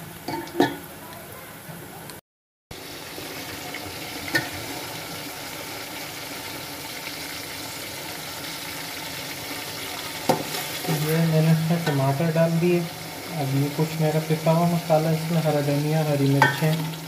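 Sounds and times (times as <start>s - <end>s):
food sizzling in hot oil: 2.7s - 17.0s.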